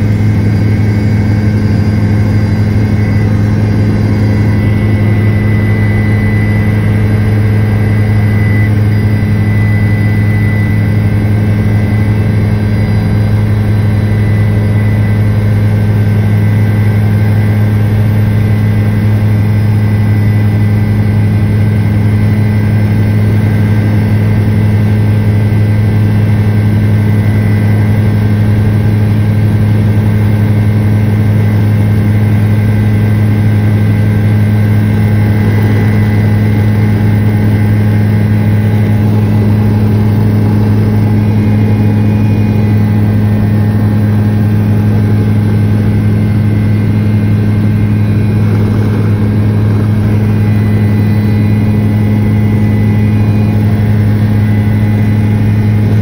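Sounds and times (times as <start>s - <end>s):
helicopter rotor drone: 0.0s - 56.0s.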